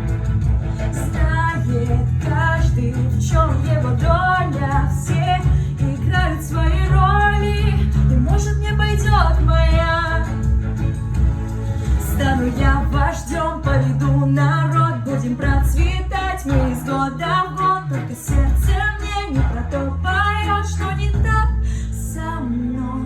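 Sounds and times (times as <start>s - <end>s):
backing music with bass notes: 0.0s - 23.0s
woman singing: 1.0s - 10.4s, 12.0s - 23.0s.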